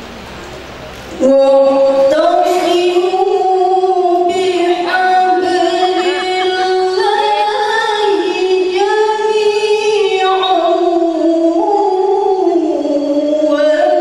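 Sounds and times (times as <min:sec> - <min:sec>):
woman reciting melodically: 0:01.1 - 0:14.0.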